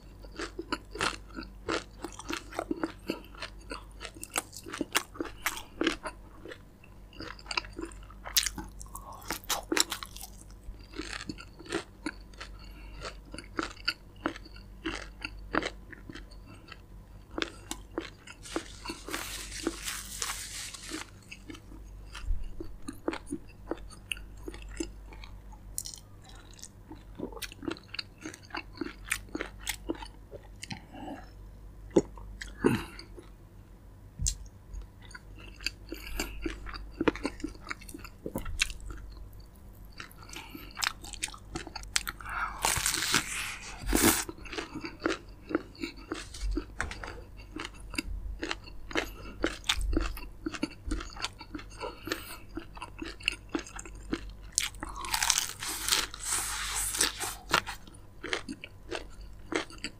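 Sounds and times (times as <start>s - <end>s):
chewing crispy chicken: 0.0s - 31.3s, 34.2s - 59.9s.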